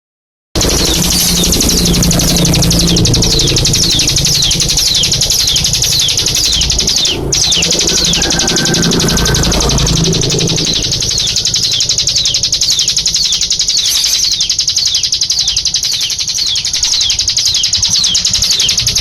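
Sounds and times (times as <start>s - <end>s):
low hum: 0.6s - 19.0s
songbird fast high trill: 0.6s - 19.0s.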